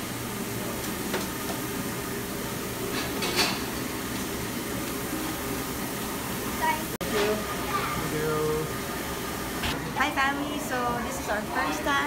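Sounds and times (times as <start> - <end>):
kitchen ventilation hum: 0.0 - 12.0.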